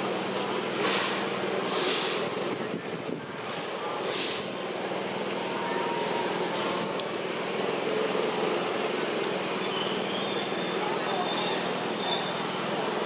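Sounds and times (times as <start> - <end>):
steady hum and hiss: 0.0 - 13.0.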